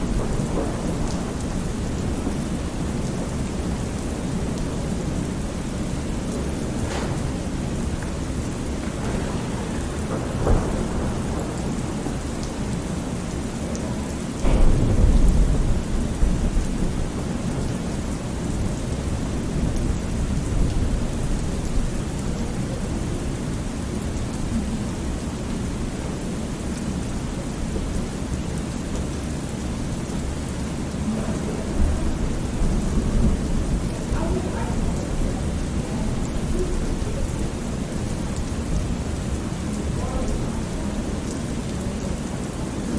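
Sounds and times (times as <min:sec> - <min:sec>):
thunder rumbling: 0:00.0 - 0:26.6, 0:30.9 - 0:41.2
steady rain: 0:00.0 - 0:42.9.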